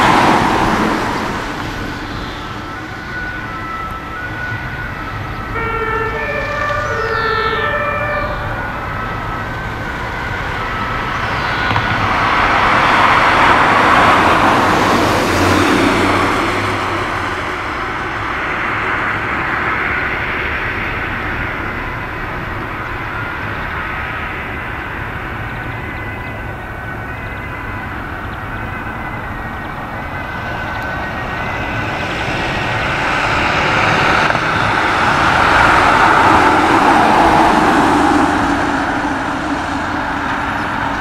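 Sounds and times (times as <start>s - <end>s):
distant ambulance siren: 0.0s - 41.0s
passing road traffic: 0.0s - 41.0s.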